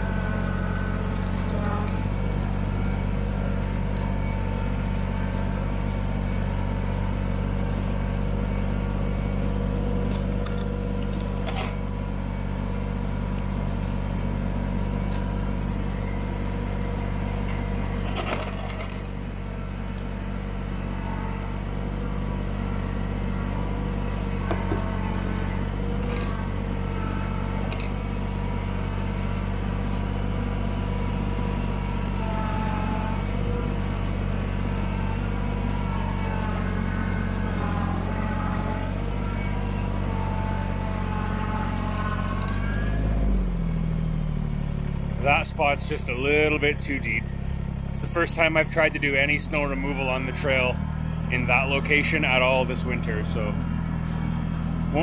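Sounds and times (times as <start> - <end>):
plow blade pushing snow: 0.0 - 55.0
tractor diesel engine under load: 0.0 - 55.0.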